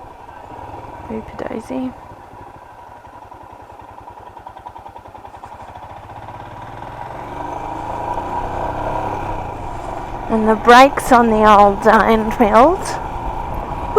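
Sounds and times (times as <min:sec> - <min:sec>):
motorcycle engine accelerating: 0:00.0 - 0:13.9.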